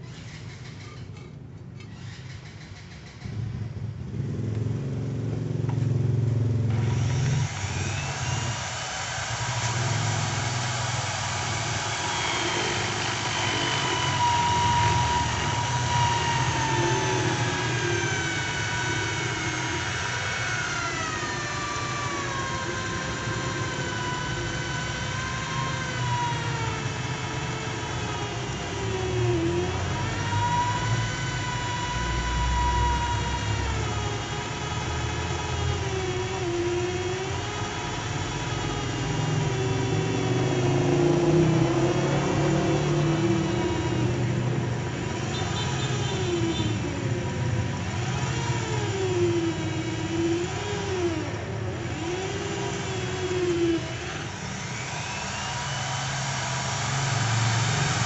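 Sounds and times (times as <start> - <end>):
electric drill whine: 0.0 - 1.0, 1.8 - 3.4, 6.7 - 58.0.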